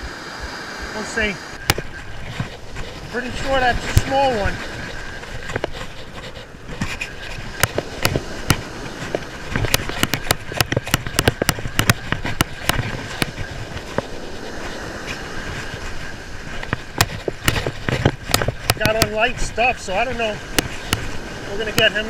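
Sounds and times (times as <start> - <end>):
wind noise: 0.0 - 22.0
rod and reel clicks and knocks: 1.6 - 22.0.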